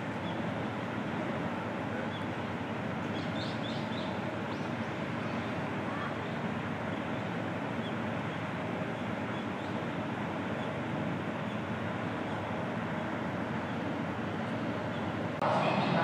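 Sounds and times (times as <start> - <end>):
outdoor background hiss and rumble: 0.0 - 16.0.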